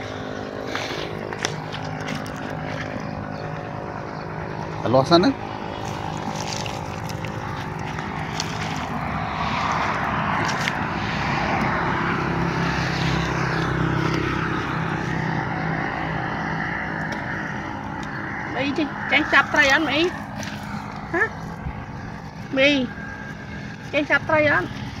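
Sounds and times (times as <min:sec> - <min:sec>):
motor engine drone: 0:00.0 - 0:25.0.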